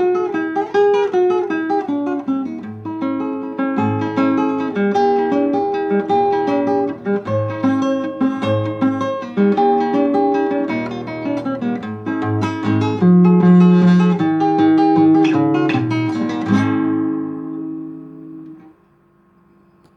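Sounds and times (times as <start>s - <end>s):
acoustic guitar folk dance: 0.0s - 18.8s.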